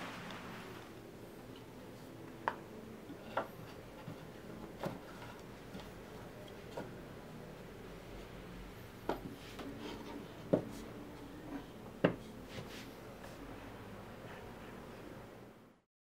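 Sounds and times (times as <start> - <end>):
faint steady hum: 0.0 - 15.8.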